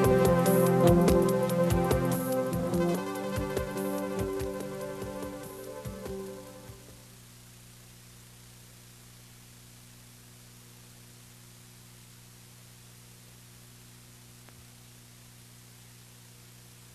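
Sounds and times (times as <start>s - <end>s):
faint steady hiss: 0.0s - 16.9s
low electrical hum: 0.0s - 16.9s.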